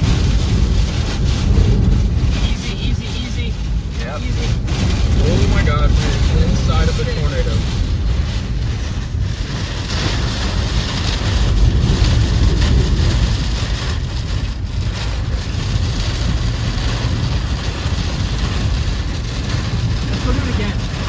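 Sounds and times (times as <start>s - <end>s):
strong wind buffeting: 0.0s - 21.0s.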